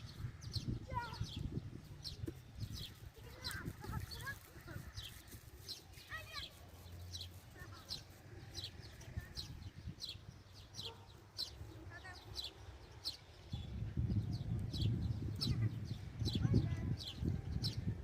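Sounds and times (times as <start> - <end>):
small bird chirping: 0.0 - 17.9.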